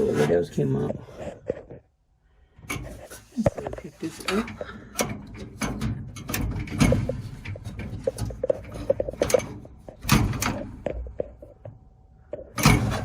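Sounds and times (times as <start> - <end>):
dryer parts clicking and scraping: 0.0 - 1.9, 2.5 - 13.0.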